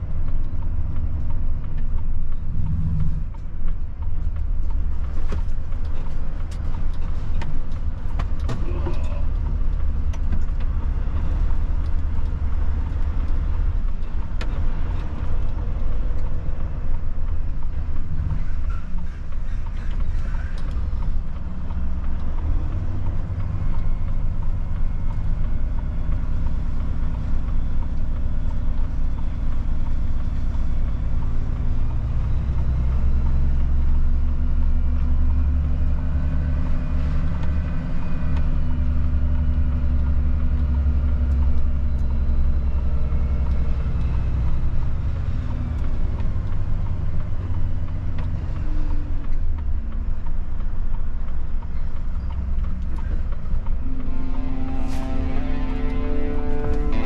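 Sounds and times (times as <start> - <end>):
truck diesel engine drone: 0.0 - 57.0.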